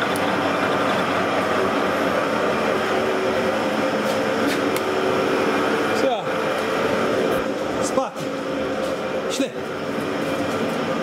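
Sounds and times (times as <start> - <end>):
milling machine drone: 0.0 - 11.0.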